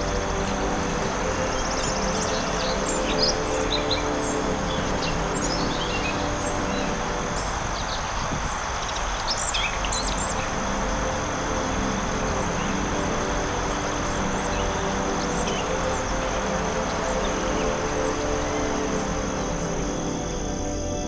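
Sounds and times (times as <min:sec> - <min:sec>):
birds chirping: 0:00.0 - 0:21.0
low sustained tones: 0:00.0 - 0:21.0
steady hiss: 0:00.0 - 0:21.0.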